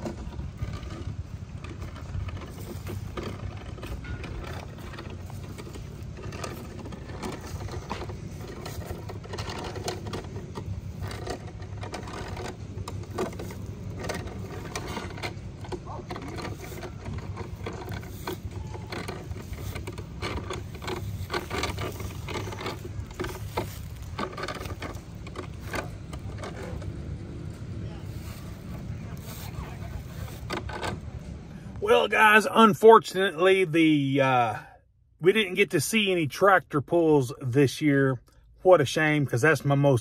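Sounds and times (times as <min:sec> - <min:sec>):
gears clicking and rattling: 0:00.0 - 0:34.6.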